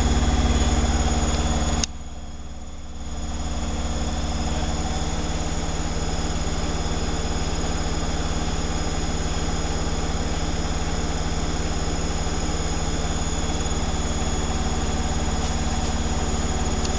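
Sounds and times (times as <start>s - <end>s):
washing machine spinning: 0.0s - 16.9s.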